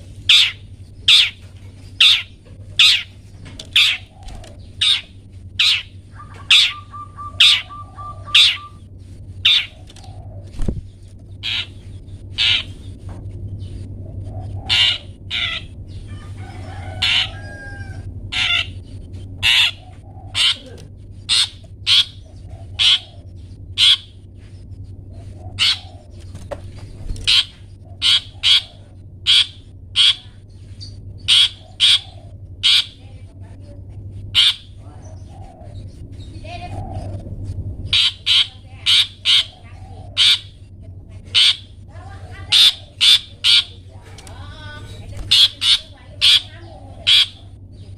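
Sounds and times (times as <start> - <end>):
shrike calling: 0.0 - 26.3, 27.1 - 37.2, 37.8 - 47.9
steady low hum: 0.0 - 47.9.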